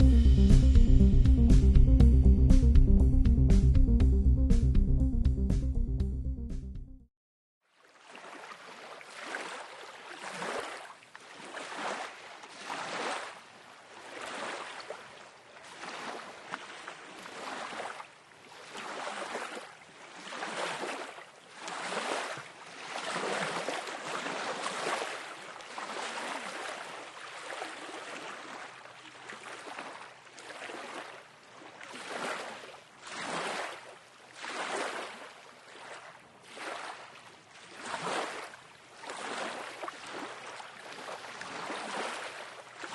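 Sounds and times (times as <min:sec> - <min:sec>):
small waves washing on shore: 0:07.6 - 0:42.9.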